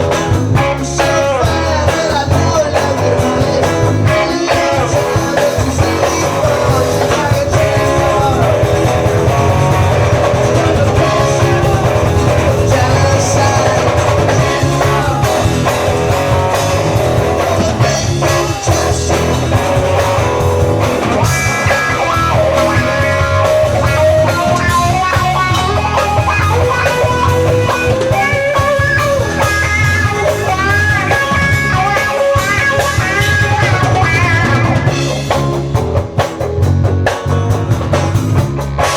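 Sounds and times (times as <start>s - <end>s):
lead guitar melody: 0.0s - 38.9s
rock band playing live: 0.0s - 38.9s.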